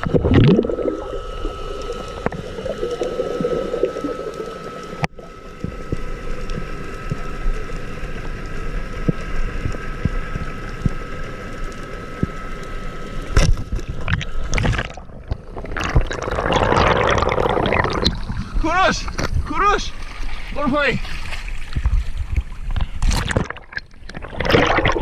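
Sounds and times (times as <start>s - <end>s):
faint underwater hum: 0.0s - 25.0s
rush of water and bubbles: 0.0s - 25.0s.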